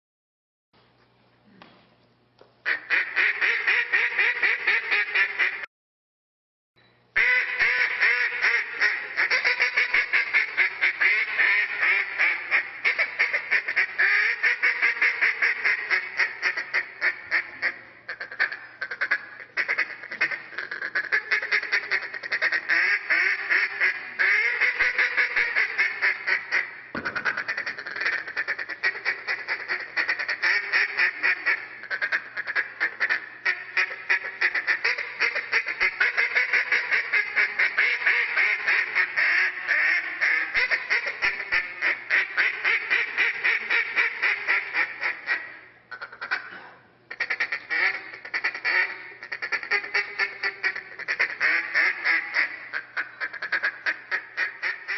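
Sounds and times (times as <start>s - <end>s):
duck call quacking: 2.6s - 5.7s, 7.2s - 54.9s.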